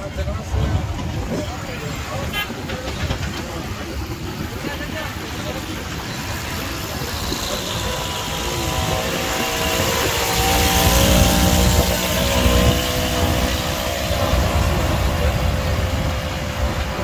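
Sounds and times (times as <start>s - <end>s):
road noise: 0.0s - 17.0s
road train engine humming: 0.0s - 17.0s.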